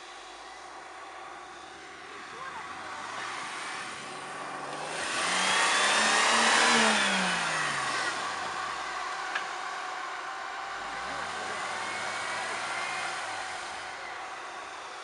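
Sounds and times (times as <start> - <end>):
vehicle engine passing: 1.1 - 15.0.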